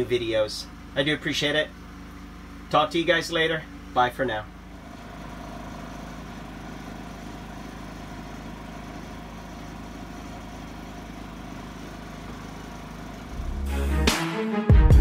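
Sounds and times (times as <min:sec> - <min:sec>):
generator engine running: 0:00.0 - 0:14.2.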